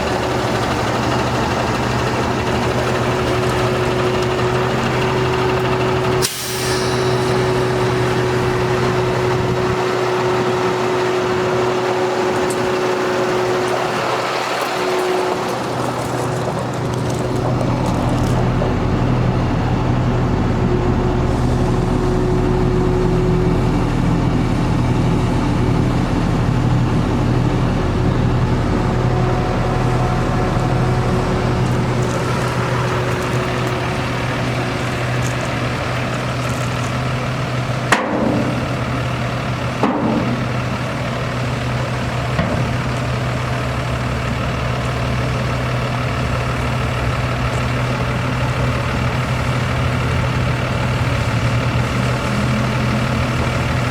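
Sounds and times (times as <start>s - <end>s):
diesel truck idling: 0.0s - 53.9s.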